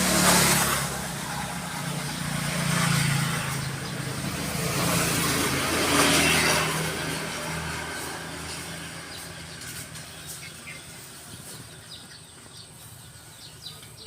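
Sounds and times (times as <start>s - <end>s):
vehicle rushing past: 0.0s - 12.3s
engine hum: 0.0s - 14.0s.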